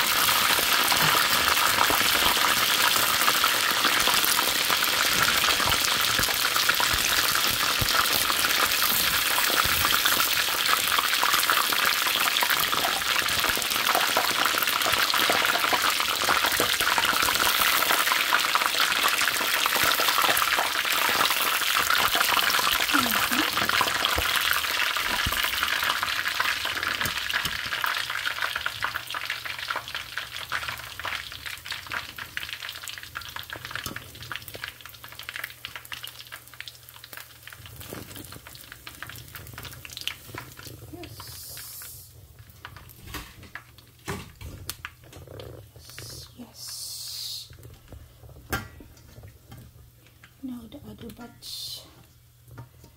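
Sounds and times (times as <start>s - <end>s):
chicken wings deep-frying in oil: 0.0s - 52.9s.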